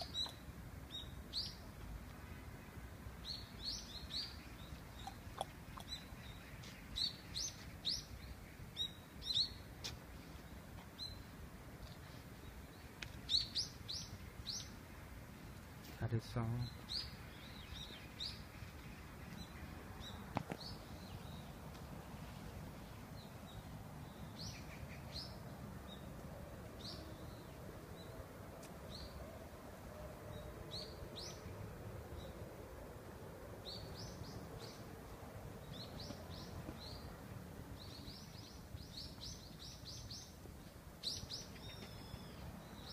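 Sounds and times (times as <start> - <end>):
small birds chirping: 0.0 - 29.4, 30.2 - 32.7, 33.6 - 42.9
low outdoor background noise: 0.0 - 42.9.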